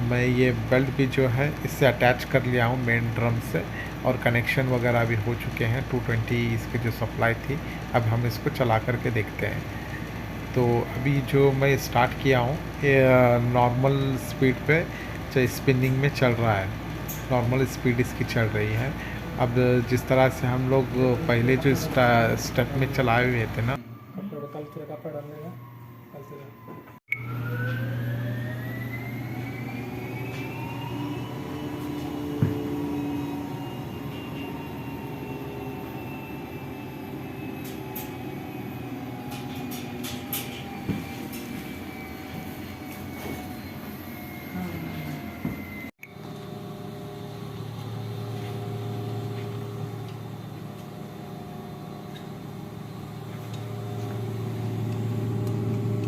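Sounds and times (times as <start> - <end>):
washing machine motor whine: 0.0 - 56.0.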